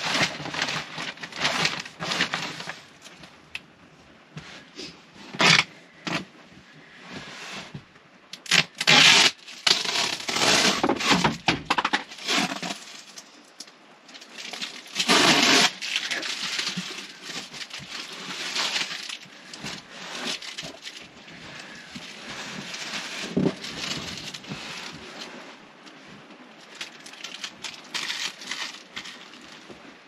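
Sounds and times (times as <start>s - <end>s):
plastic wrapping crinkling and tearing: 0.0s - 3.3s, 5.2s - 6.3s, 8.3s - 30.0s.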